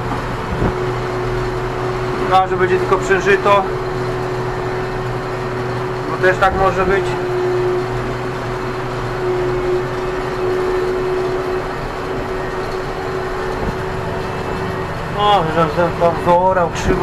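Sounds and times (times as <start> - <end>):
steady whine: 0.0 - 17.0
tractor diesel engine under load: 0.0 - 17.0.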